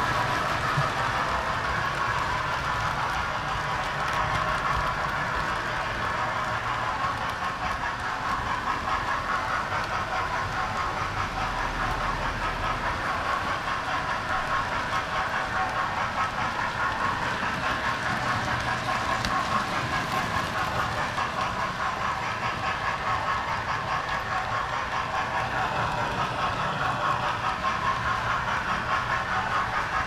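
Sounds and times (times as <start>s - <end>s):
model train running on rails: 0.0s - 30.0s.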